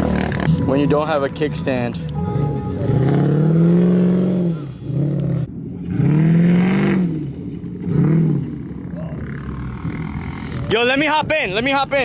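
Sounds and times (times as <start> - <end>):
vehicle engine revving: 0.0 - 1.1, 2.0 - 11.2.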